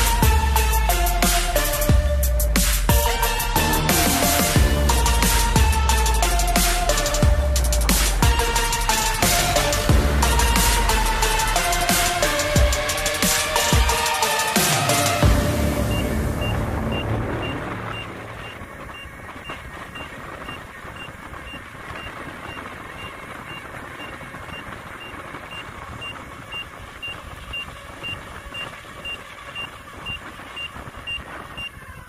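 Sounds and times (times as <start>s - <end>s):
electric unicycle beeping: 0.0s - 32.0s
rushing wind: 4.8s - 32.0s.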